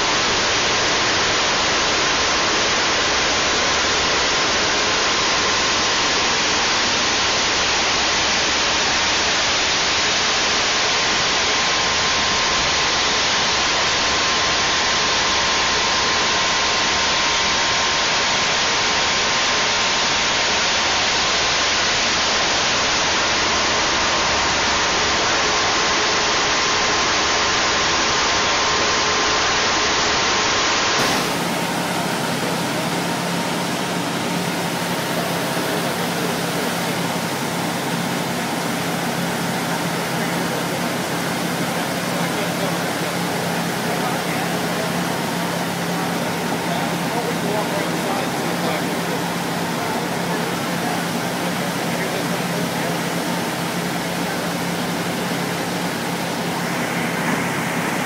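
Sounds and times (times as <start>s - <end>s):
loud static hiss: 0.0s - 58.0s.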